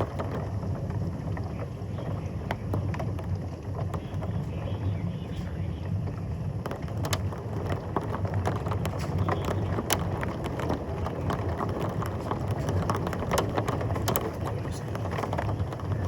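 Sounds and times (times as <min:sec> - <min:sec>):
rain tapping on hard surface: 0:00.0 - 0:16.0
storm wind and rain: 0:00.0 - 0:16.0.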